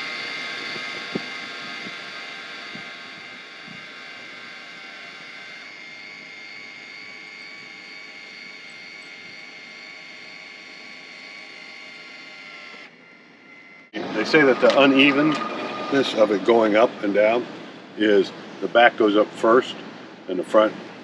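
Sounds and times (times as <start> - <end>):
electric motor whine: 0.0 - 17.9.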